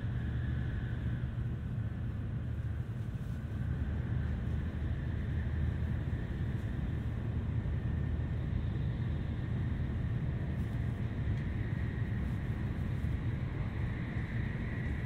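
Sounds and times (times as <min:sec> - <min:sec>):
faint steady whine: 0:00.0 - 0:15.0
train wheels rumbling on rail: 0:00.0 - 0:15.0.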